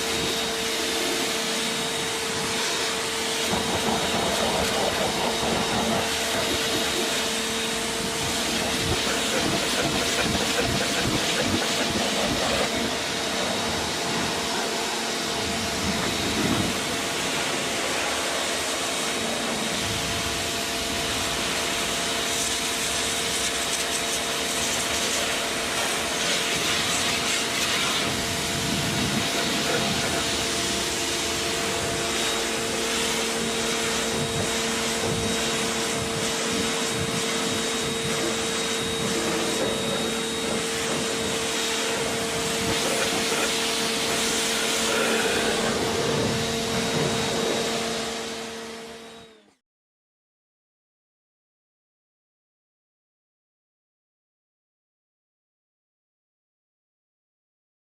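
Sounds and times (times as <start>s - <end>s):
water jet hissing: 0.0s - 47.9s
pressure washer motor whine: 0.0s - 49.6s.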